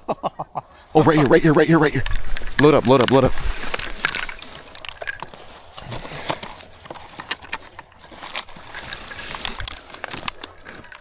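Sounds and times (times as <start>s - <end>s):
light rustling: 0.8s - 11.0s.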